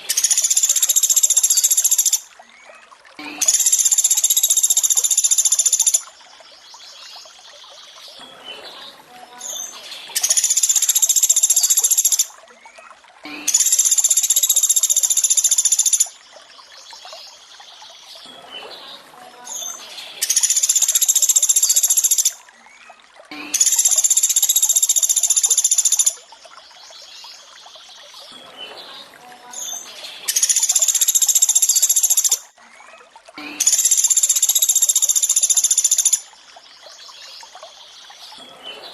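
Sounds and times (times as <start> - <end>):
faint trickle of running water: 0.0 - 38.9.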